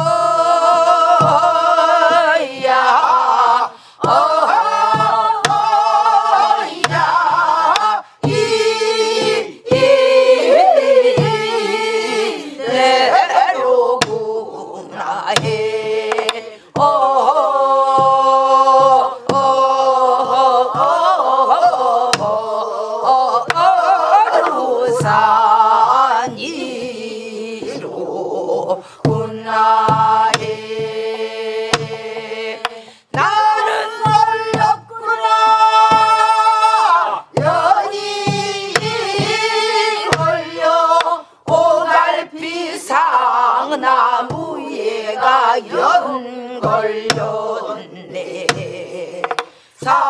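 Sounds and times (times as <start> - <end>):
barrel drum strokes: 0.0 - 22.6, 23.2 - 45.9, 46.6 - 50.0
group singing folk song: 0.0 - 50.0.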